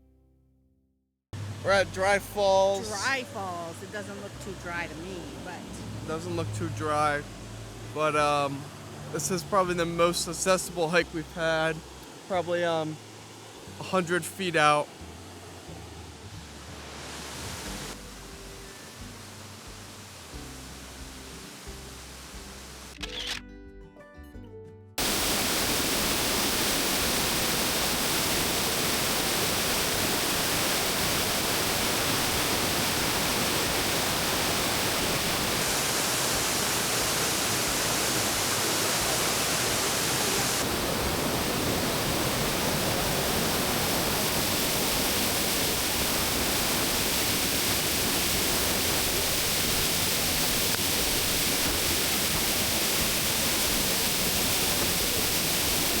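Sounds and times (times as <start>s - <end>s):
waterfall rushing: 1.4s - 22.9s, 25.0s - 56.0s.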